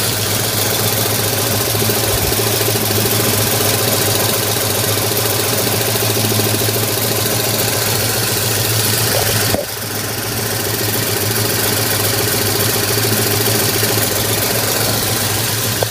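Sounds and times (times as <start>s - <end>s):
engine idling: 0.0s - 15.9s.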